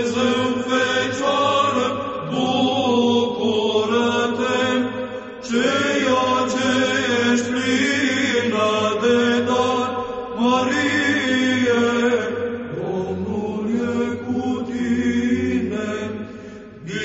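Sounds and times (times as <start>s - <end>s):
held vocal drone: 0.0s - 17.0s.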